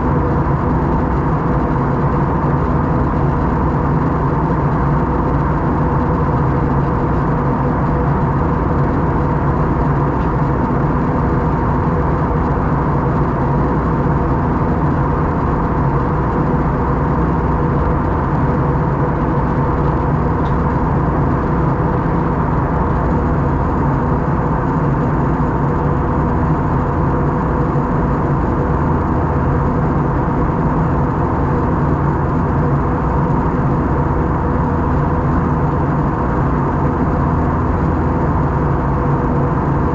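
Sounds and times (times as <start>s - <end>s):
constant cabin hum: 0.0s - 39.9s
jet engines droning: 0.0s - 39.9s.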